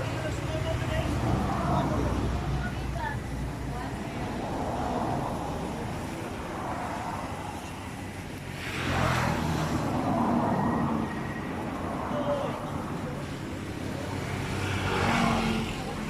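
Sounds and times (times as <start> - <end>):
vehicle passing close: 0.6 - 16.0.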